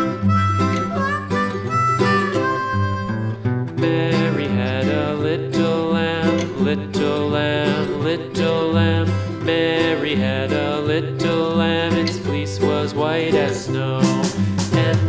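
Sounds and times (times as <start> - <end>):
acoustic guitar: 0.0 - 15.0
harmonica: 0.0 - 15.0.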